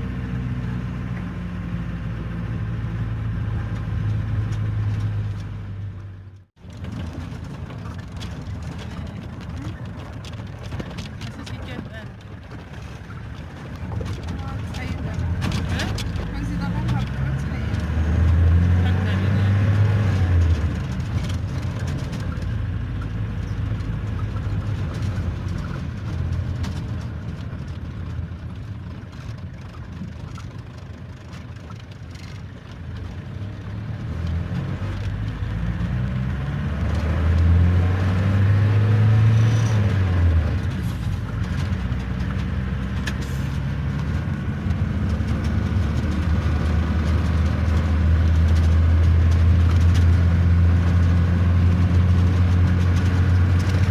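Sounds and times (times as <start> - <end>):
car engine running: 0.0 - 53.9
road noise: 0.0 - 53.9.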